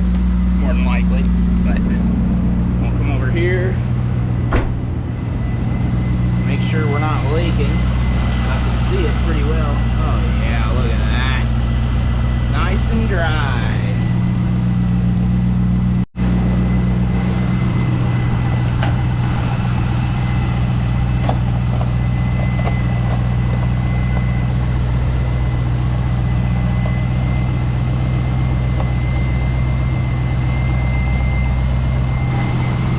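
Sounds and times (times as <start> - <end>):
car engine idling: 0.0 - 32.9
faint high whine: 0.0 - 32.9.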